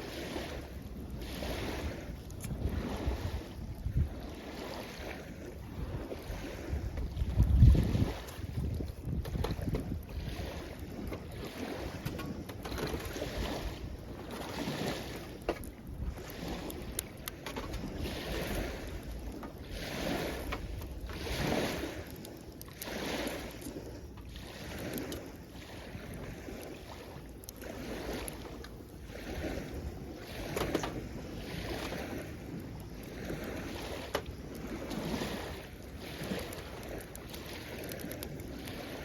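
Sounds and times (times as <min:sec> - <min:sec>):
small waves washing on shore: 0:00.0 - 0:39.0
wind rumble on microphone: 0:00.0 - 0:39.0
campfire crackling: 0:00.4 - 0:04.6, 0:07.0 - 0:39.0.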